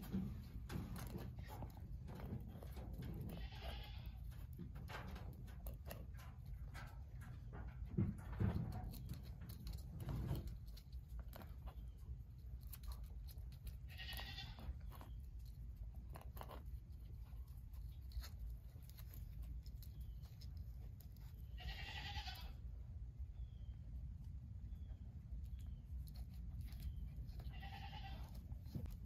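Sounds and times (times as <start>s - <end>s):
small clicks and scrapes: 0.0s - 22.7s, 24.2s - 29.0s
skunk scratching in sand: 0.0s - 29.0s.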